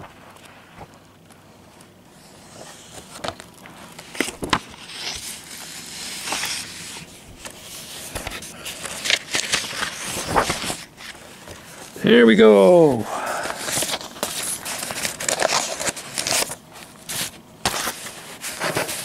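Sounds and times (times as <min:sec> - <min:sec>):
paper pages rustling: 0:00.0 - 0:12.0, 0:13.2 - 0:19.0.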